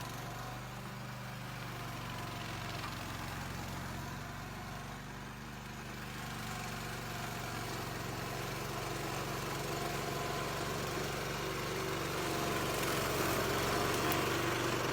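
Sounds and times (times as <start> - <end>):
lawn mower engine running: 0.0 - 14.9.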